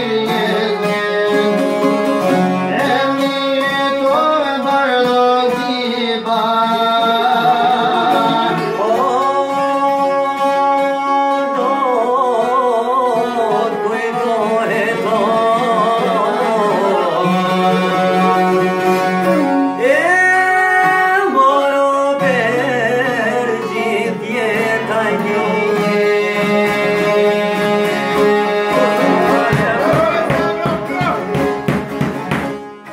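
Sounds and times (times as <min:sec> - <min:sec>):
accordion: 0:00.0 - 0:21.4, 0:22.1 - 0:32.9
man singing: 0:00.0 - 0:32.3
strummed lutes: 0:00.0 - 0:32.9
violin: 0:00.0 - 0:32.9.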